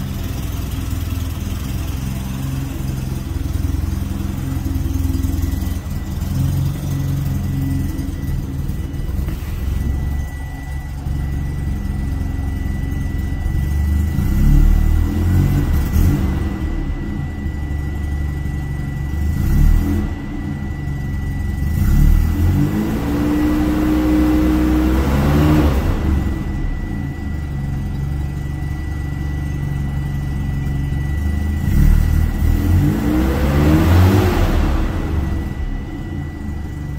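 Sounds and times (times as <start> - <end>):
rotary engine idling and revving: 0.0 - 36.9.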